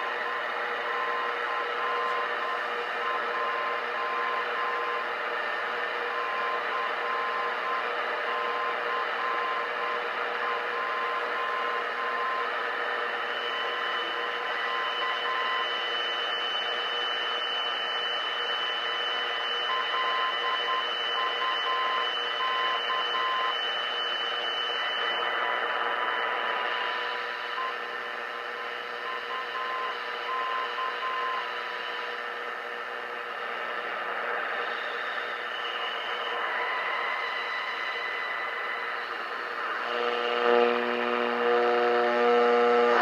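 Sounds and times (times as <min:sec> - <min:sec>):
radio static and hiss: 0:00.0 - 0:43.0
steady radio whistles: 0:00.0 - 0:43.0.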